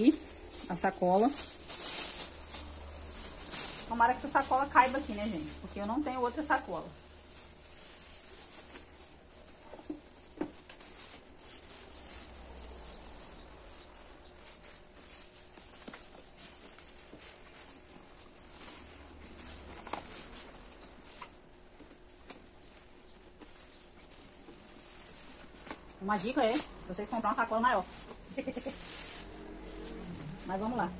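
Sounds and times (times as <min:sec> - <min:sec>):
plastic bag crinkling: 0:00.0 - 0:30.9.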